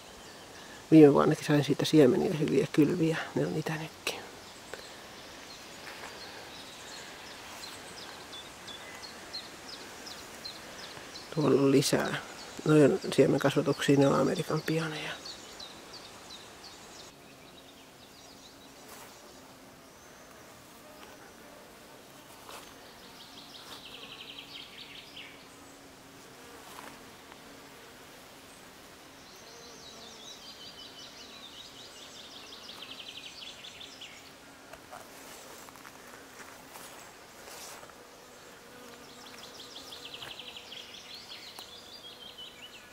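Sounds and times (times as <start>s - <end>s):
insects buzzing: 0.0s - 42.9s.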